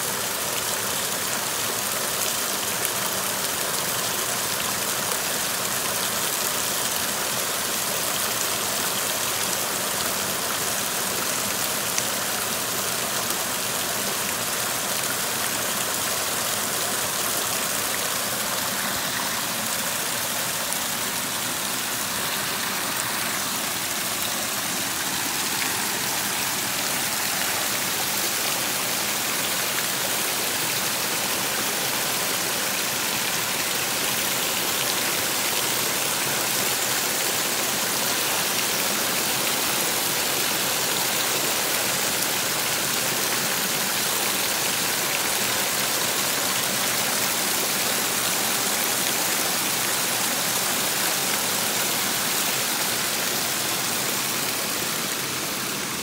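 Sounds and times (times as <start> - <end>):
waterfall splashing over rocks: 0.0 - 56.0.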